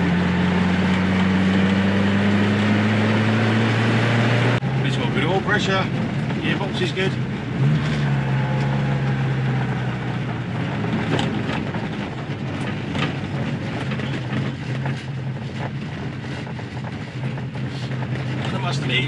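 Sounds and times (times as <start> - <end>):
car engine humming: 0.0 - 19.0
tyre and road noise: 0.0 - 19.0.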